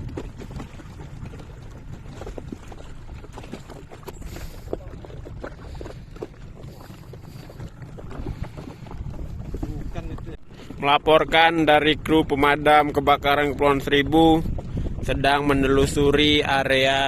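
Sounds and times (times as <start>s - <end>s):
water splashing: 0.0s - 15.0s
wind rumbling on microphone: 0.0s - 17.0s.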